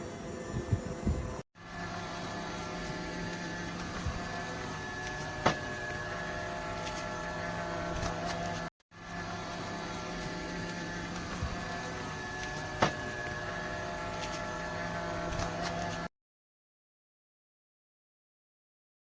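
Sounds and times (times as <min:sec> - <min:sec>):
robot vacuum motor hum: 0:00.0 - 0:16.1.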